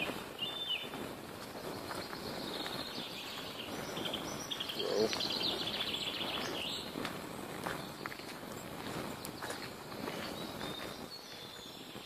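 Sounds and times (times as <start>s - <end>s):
birds singing: 0.0s - 12.0s
footsteps on leaf litter: 0.0s - 12.0s.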